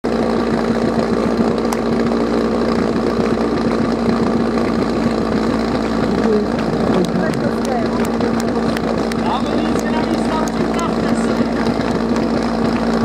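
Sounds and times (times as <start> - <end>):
small pump engine running: 0.0 - 13.0.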